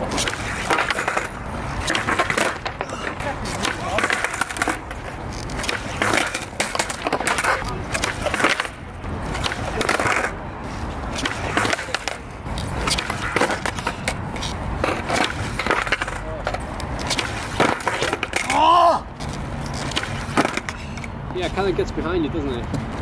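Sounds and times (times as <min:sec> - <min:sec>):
skateboard clattering on concrete: 0:00.0 - 0:10.4, 0:11.1 - 0:19.0, 0:19.7 - 0:21.1
skateboard tail popping: 0:00.0 - 0:10.4, 0:11.1 - 0:18.6, 0:19.7 - 0:20.8
skateboard wheels rolling on concrete: 0:00.0 - 0:23.0.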